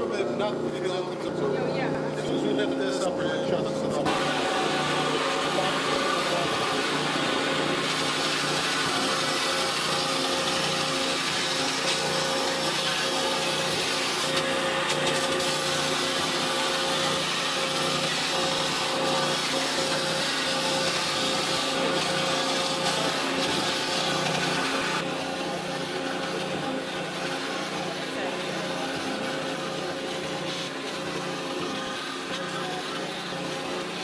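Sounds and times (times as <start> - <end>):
mid-pitched machine hum: 0.0 - 34.0
water jet cutter hissing: 4.0 - 34.0.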